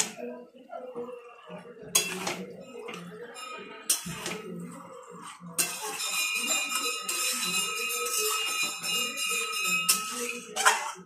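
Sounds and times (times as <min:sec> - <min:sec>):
spatula scraping metal pan: 0:01.8 - 0:11.0.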